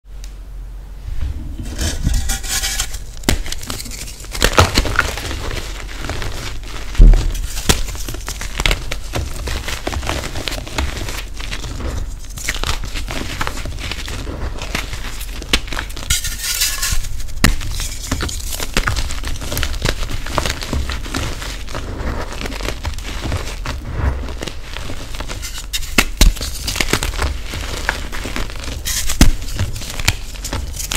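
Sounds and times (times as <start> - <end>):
chalk crunching and crumbling: 1.6 - 30.9.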